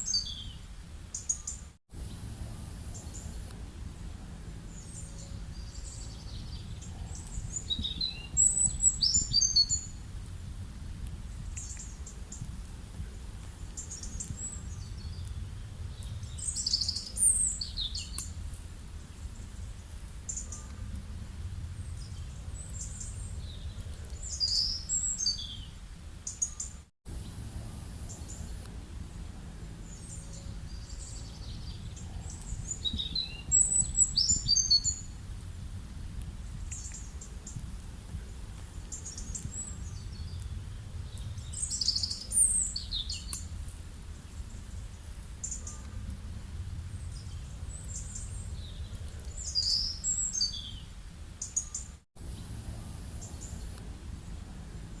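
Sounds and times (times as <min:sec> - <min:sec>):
wild birds chirping: 0:00.0 - 0:10.1, 0:11.3 - 0:35.2, 0:36.4 - 0:46.1, 0:46.7 - 0:55.0
low background rumble: 0:01.9 - 0:26.3, 0:27.1 - 0:51.4, 0:52.2 - 0:55.0.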